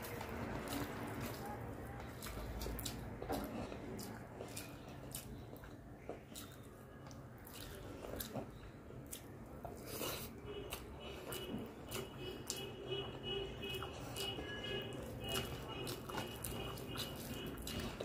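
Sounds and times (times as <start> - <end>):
chewing: 0.0 - 18.0.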